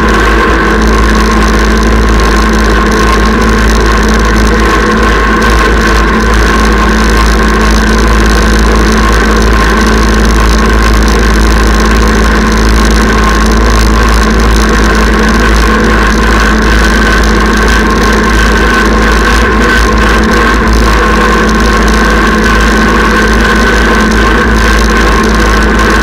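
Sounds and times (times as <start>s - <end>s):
steady high whine: 0.0s - 26.0s
tractor diesel engine running: 0.0s - 26.0s.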